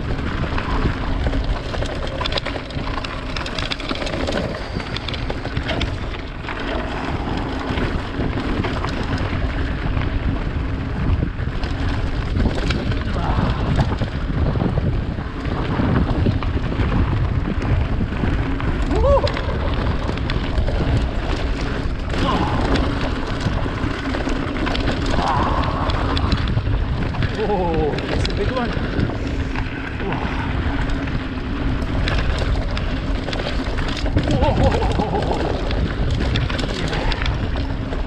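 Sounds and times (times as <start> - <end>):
bike tyres rolling on gravel: 0.0 - 38.0
stones and bike rattling: 0.0 - 38.0
wind on microphone: 0.0 - 38.0.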